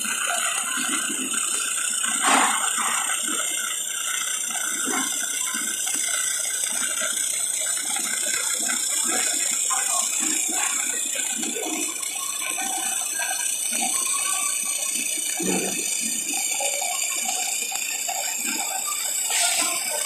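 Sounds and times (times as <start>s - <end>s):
mechanical clicking and rattling: 0.0s - 20.0s
workshop machinery hiss: 0.0s - 20.0s.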